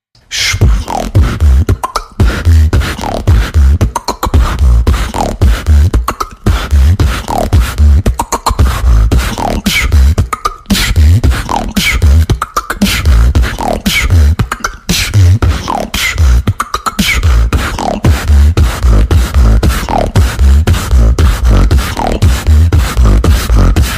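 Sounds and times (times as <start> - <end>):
beatboxing: 0.2 - 23.9.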